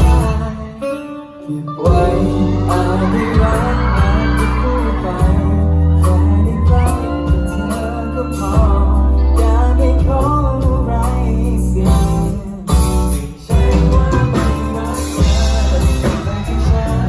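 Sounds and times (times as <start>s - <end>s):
lead vocalist singing: 0.0s - 17.0s
live band playing pop song: 0.0s - 17.0s.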